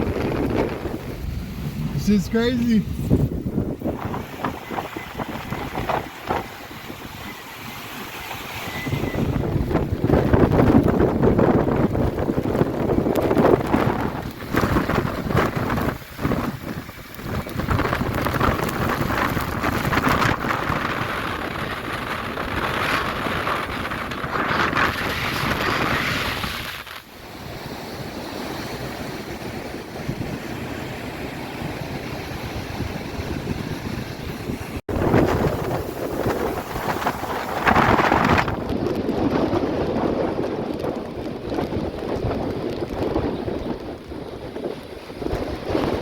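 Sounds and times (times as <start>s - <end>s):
storm surf rushing: 0.0s - 46.0s
wind buffeting microphone: 0.0s - 46.0s.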